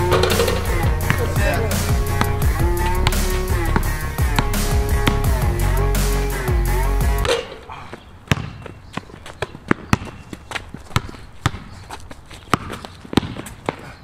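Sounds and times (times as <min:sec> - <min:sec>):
basketball bouncing on concrete: 0:00.0 - 0:05.6, 0:07.2 - 0:07.6, 0:08.2 - 0:13.9.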